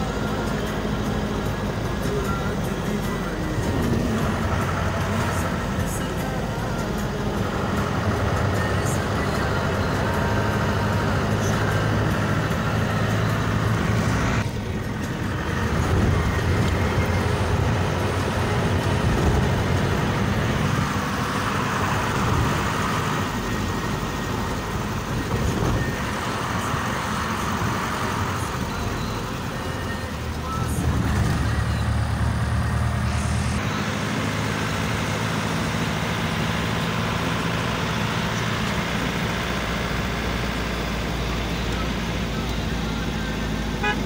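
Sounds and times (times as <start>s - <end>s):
car engine and tyre noise: 0.0s - 44.0s.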